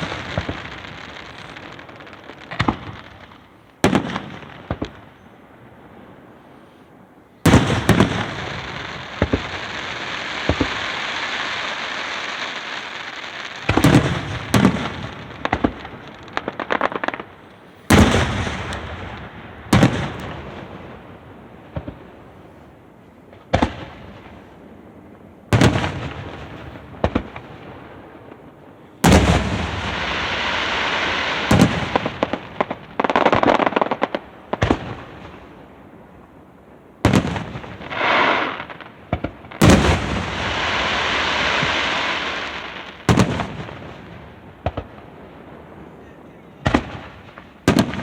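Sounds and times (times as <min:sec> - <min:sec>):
fireworks booming: 0:00.0 - 0:06.5, 0:07.4 - 0:48.0
hissing crackle: 0:00.0 - 0:24.6, 0:26.0 - 0:35.8, 0:37.4 - 0:48.0.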